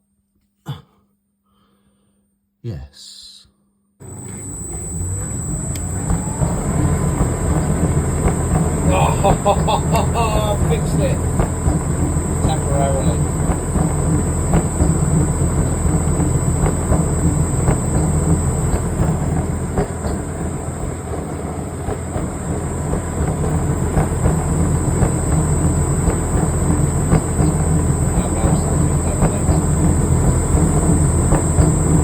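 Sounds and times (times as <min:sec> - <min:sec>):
tumble dryer rumbling hum: 0:04.0 - 0:32.0.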